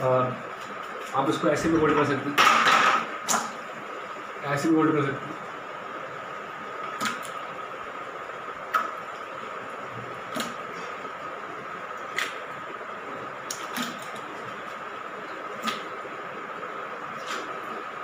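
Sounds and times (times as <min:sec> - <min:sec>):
faint high hum: 0:00.0 - 0:18.0
steady background hiss: 0:00.0 - 0:18.0.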